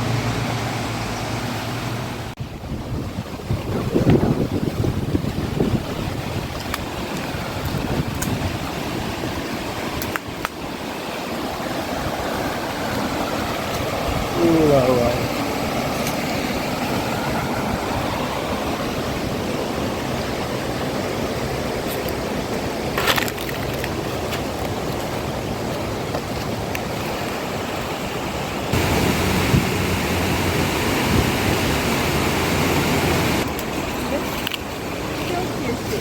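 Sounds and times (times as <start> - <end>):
flowing river water: 0.0 - 36.0.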